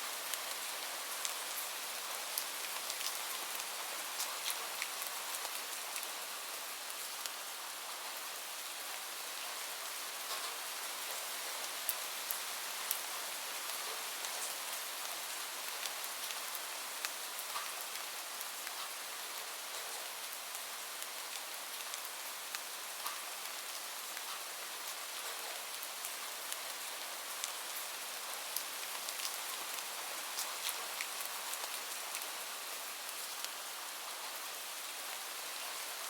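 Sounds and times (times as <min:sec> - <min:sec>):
steady rainfall hiss: 0:00.0 - 0:36.0.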